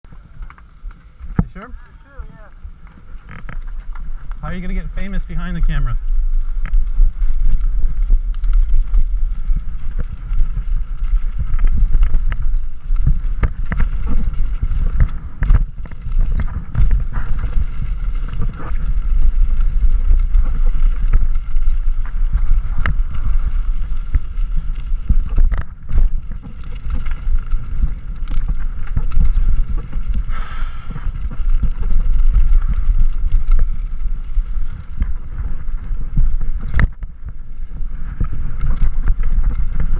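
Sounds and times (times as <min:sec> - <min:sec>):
bike rattling over rocks: 0:00.1 - 0:39.9
wind buffeting microphone: 0:00.1 - 0:39.9.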